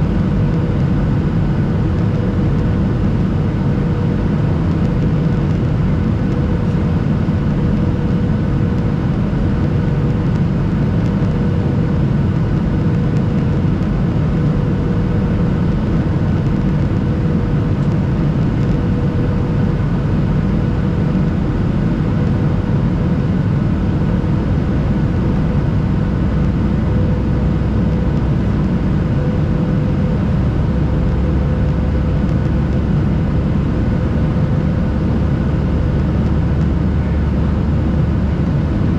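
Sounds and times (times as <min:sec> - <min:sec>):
jet engine cabin drone: 0:00.0 - 0:38.9
steady whine: 0:00.0 - 0:38.9.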